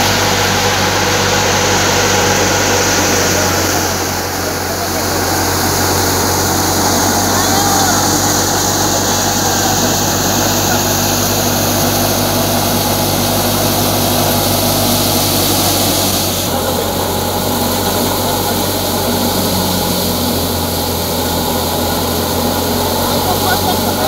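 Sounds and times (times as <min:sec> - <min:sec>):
hiss of rushing air and chaff: 0:00.0 - 0:24.0
thresher and tractor engine drone: 0:00.0 - 0:24.0.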